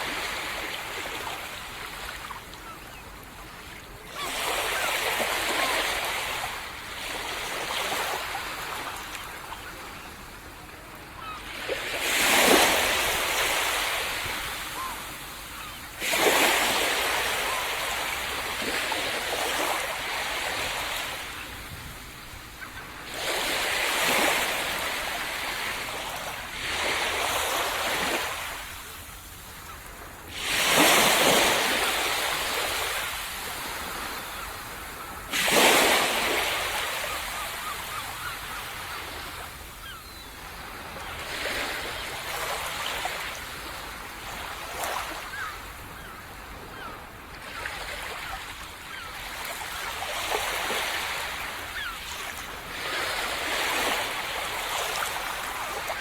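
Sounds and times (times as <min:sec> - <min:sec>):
waves breaking on a beach: 0:00.0 - 0:56.0.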